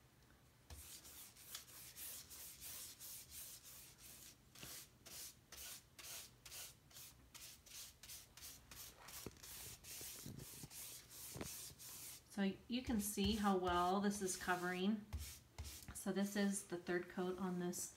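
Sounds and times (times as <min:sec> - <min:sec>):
paintbrush strokes on wood: 0:00.7 - 0:12.3, 0:13.2 - 0:16.0.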